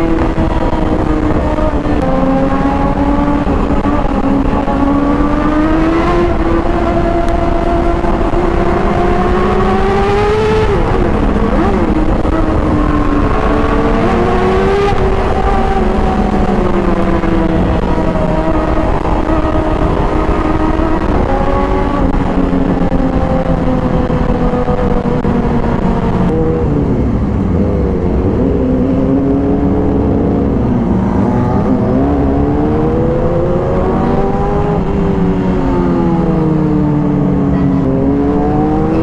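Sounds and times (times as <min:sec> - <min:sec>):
motorcycle engine revving: 0:00.0 - 0:39.0
wind rumble on microphone: 0:00.0 - 0:39.0.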